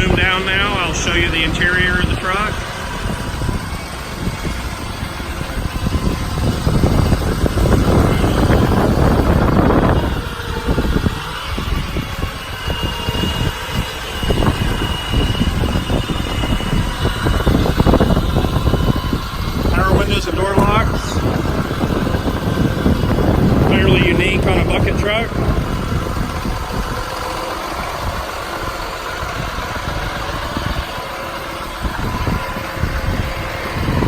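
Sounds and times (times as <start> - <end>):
diesel truck engine running: 0.0 - 34.0
wind buffeting microphone: 0.0 - 34.0.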